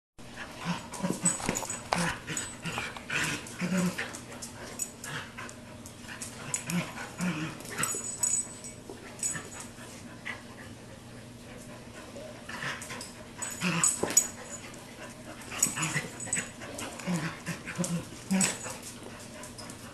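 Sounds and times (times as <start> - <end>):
dogs growling playfully: 0.3 - 19.9.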